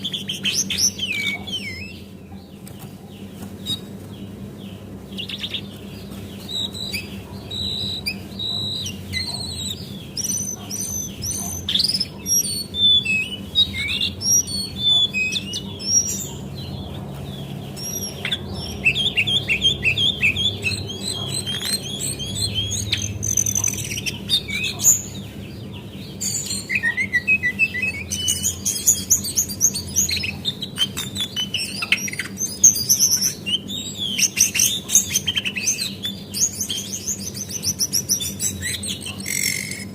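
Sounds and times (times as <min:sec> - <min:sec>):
bird singing chirps and whistles: 0:00.0 - 0:02.1, 0:03.6 - 0:03.9, 0:05.1 - 0:39.9.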